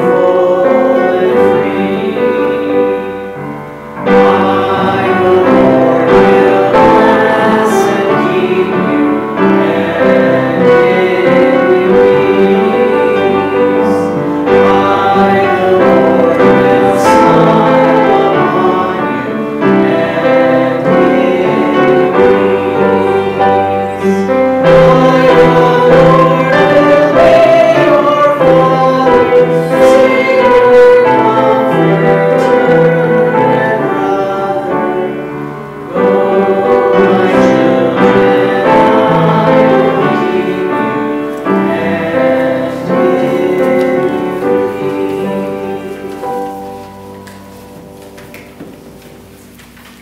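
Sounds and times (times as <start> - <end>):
voices singing a hymn: 0.0 - 49.4
instrumental accompaniment: 0.0 - 50.0.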